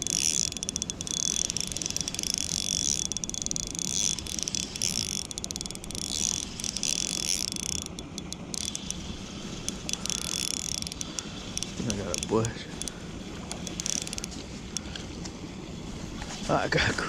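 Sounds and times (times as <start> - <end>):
fishing reel whirring and clicking: 0.0 - 15.1.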